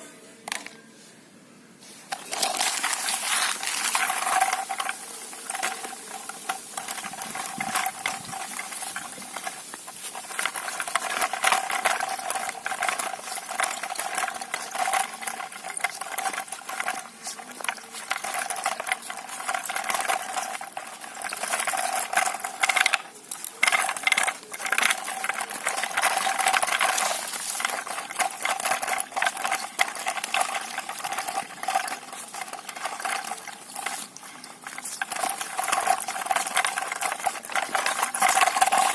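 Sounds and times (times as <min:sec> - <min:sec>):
plastic clicking and rattling: 0:02.1 - 0:38.9
toy motor whirring: 0:02.1 - 0:38.9.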